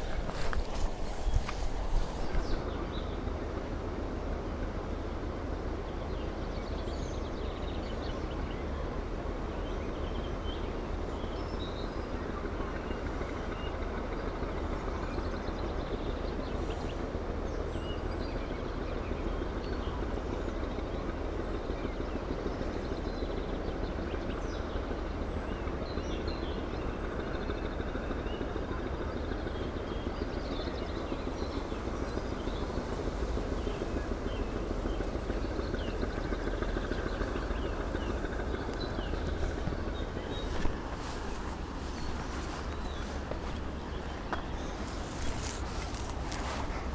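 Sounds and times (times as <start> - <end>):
low outdoor rumble: 0.0 - 46.9.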